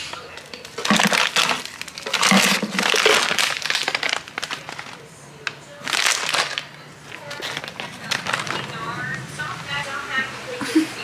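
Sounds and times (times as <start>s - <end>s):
crinkling and rustling: 0.0s - 9.2s.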